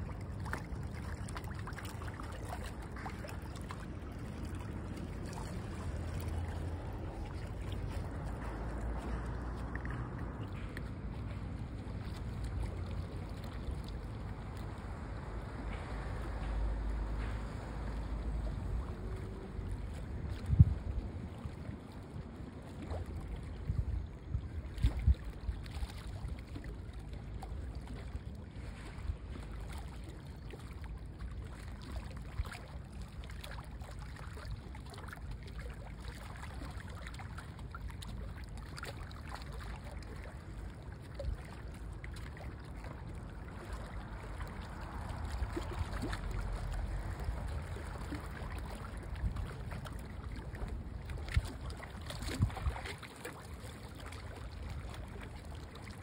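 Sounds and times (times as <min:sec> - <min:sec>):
water lapping and trickling: 0:00.0 - 0:56.0
wind rumbling on microphone: 0:00.0 - 0:56.0.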